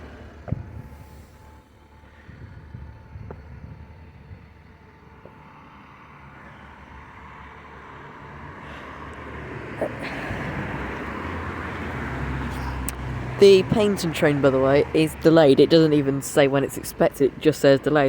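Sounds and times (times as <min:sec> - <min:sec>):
vehicle approaching: 0:00.0 - 0:18.0.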